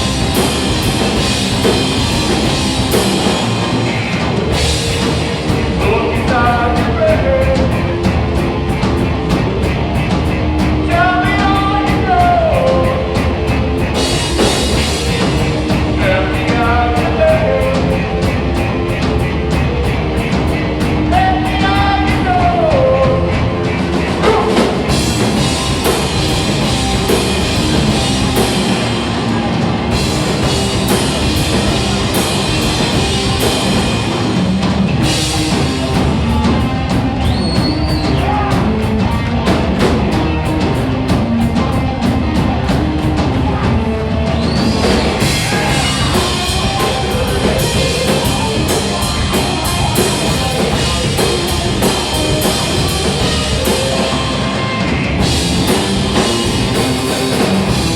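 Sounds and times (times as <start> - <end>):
rock band playing: 0.0 - 57.9.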